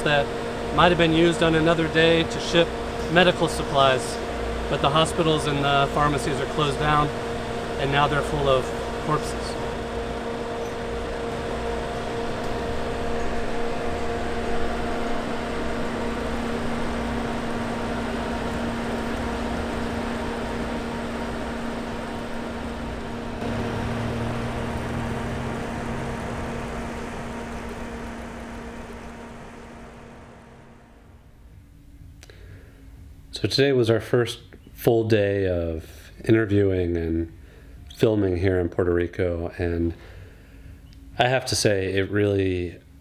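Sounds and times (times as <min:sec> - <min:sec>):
refrigeration unit fans humming: 0:00.0 - 0:43.0.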